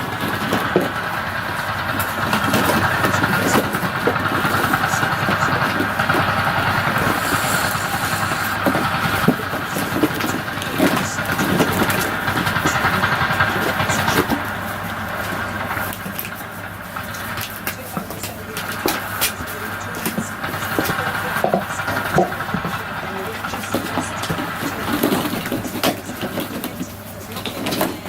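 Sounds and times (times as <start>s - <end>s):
vehicle engine drone: 0.0s - 28.0s.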